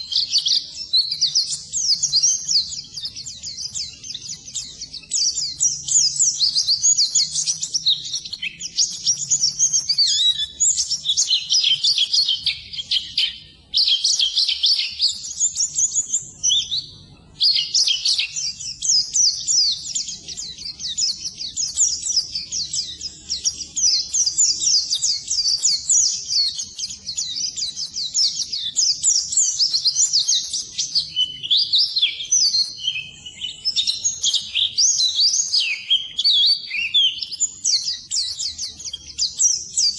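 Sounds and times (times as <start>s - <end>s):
bird twittering high chirps: 0.0s - 39.9s.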